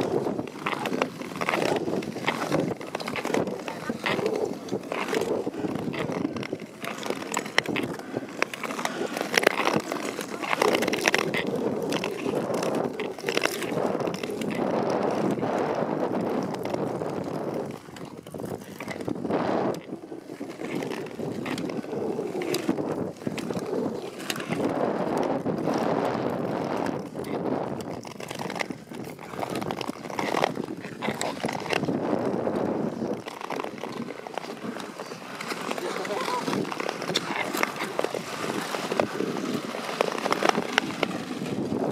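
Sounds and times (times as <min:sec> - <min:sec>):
ice skates scraping ice: 0:00.0 - 0:41.9.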